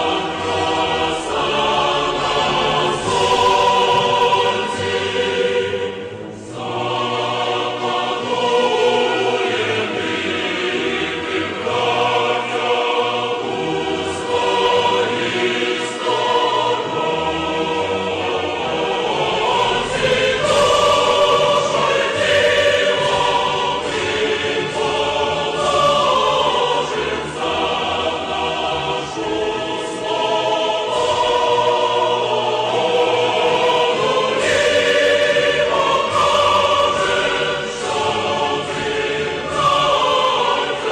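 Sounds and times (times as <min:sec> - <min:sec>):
choir singing held notes: 0:00.0 - 0:40.9.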